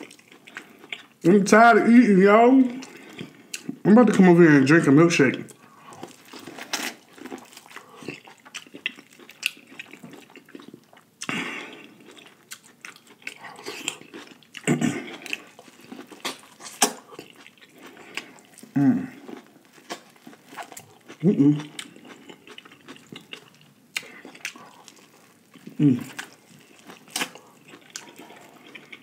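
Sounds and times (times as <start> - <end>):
wet chewing and lip smacking: 0.0 - 1.2, 5.5 - 29.0.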